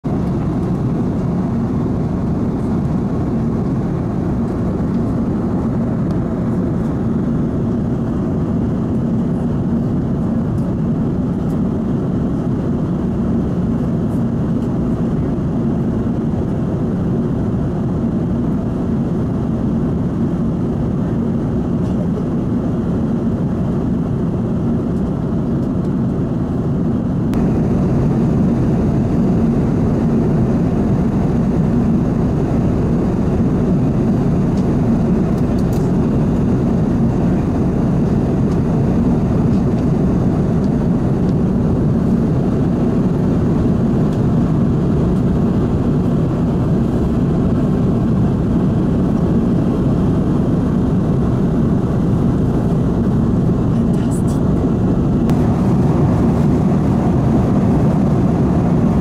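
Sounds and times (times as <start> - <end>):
airplane cabin roar: 0.0 - 59.0.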